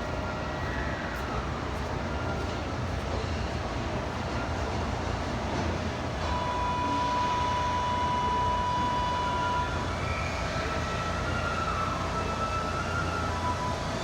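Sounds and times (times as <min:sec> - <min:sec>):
high whining train tones: 0:00.0 - 0:14.0
train rumbling: 0:00.0 - 0:14.0.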